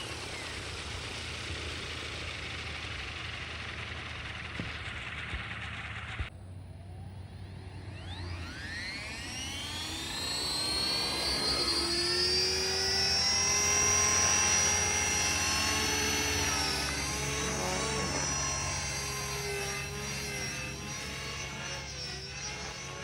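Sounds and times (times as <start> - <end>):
electric helicopter motor whine: 0.0 - 23.0.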